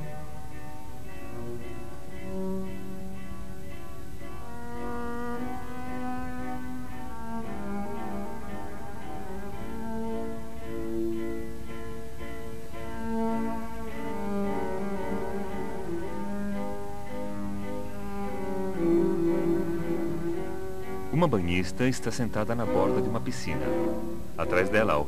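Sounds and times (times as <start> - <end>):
slow bowed string music: 0.0 - 25.0.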